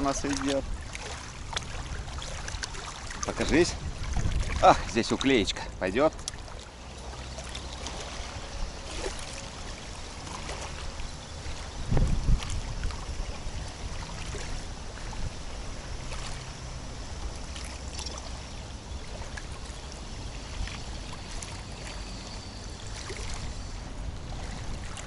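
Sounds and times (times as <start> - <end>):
waves lapping and splashing: 0.0 - 25.0
wind rumbling on microphone: 0.0 - 25.0.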